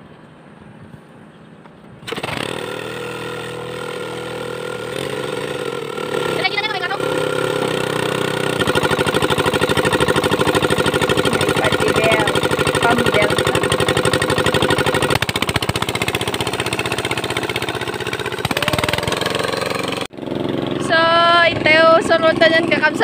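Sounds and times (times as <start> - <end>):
hand tractor engine chugging: 2.1 - 23.0.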